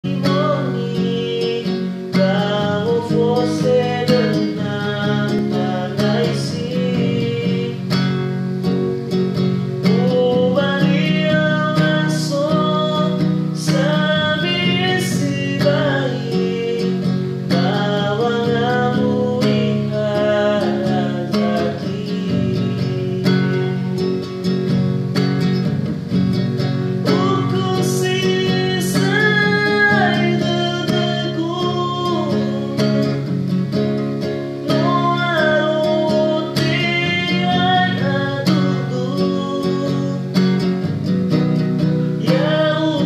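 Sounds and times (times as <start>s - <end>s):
man singing: 0.0s - 24.7s, 27.0s - 43.0s
strummed acoustic guitar: 0.0s - 43.0s.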